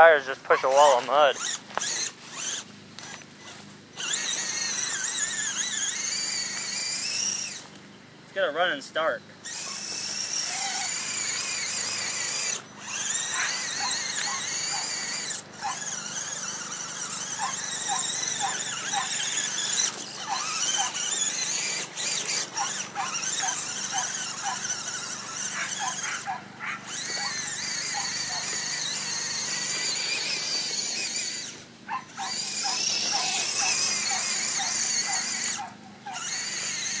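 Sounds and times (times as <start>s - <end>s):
rc car motor whining: 0.0s - 37.0s.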